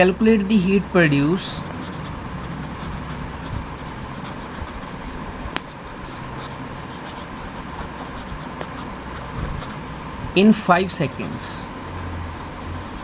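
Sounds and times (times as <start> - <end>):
steady background hum: 0.0 - 13.0
pen scratching on paper: 1.4 - 13.0.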